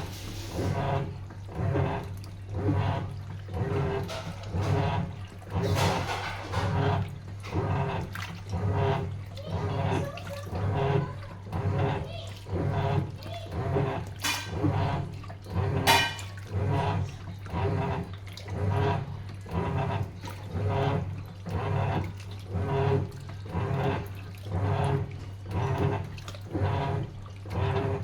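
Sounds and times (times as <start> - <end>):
low motor hum: 0.0 - 28.0
water sloshing in washing machine: 0.0 - 28.0.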